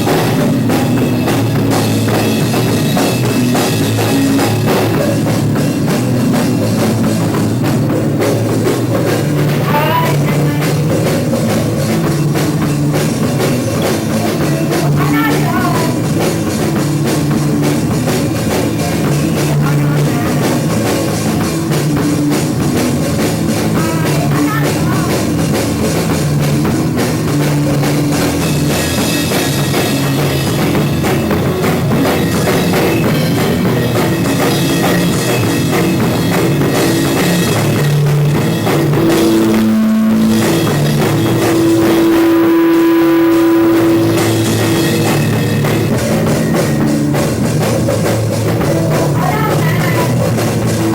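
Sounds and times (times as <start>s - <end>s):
heavy rock band playing: 0.0s - 50.9s.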